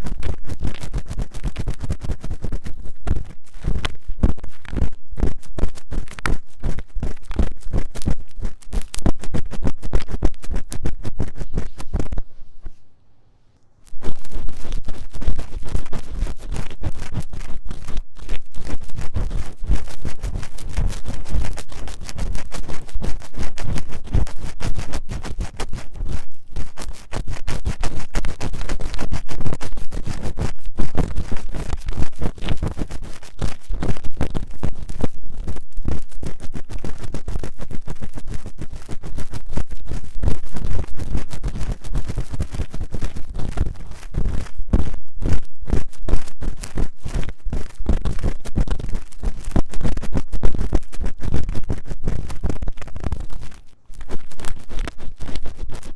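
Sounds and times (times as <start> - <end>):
ear-cleaning tool scratching microphone: 0.0 - 12.9, 13.8 - 55.9.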